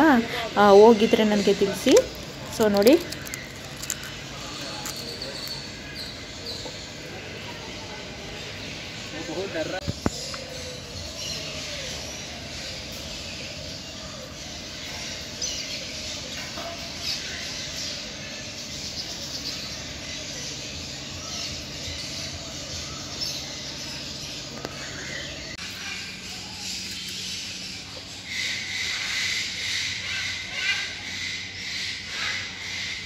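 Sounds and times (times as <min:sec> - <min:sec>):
parrots chirping and squawking: 0:00.0 - 0:33.0.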